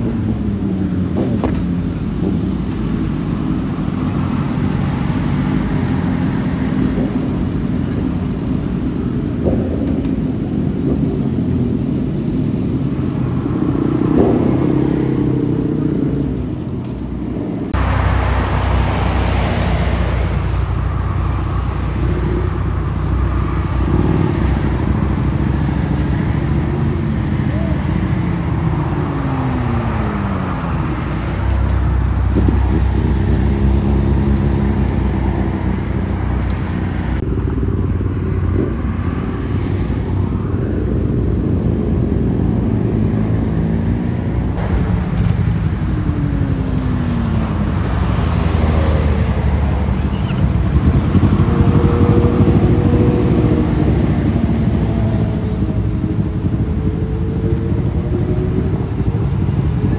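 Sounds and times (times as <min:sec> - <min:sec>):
low rumble of traffic: 0:00.0 - 0:59.9
motorcycles riding past: 0:00.0 - 0:59.9.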